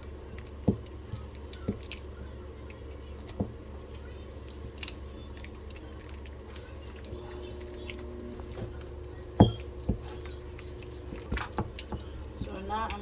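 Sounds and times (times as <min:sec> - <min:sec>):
utensil stirring sticky dough: 0:00.0 - 0:13.0.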